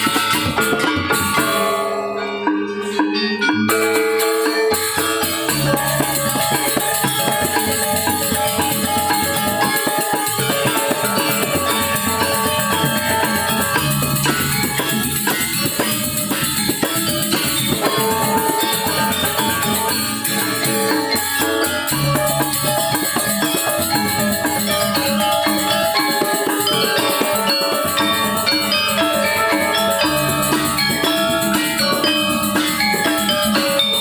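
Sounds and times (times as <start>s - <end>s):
fast drumming: 0.0s - 1.8s, 3.8s - 34.0s
metallophones and gongs ringing: 0.0s - 34.0s
small cymbals clashing: 0.0s - 34.0s.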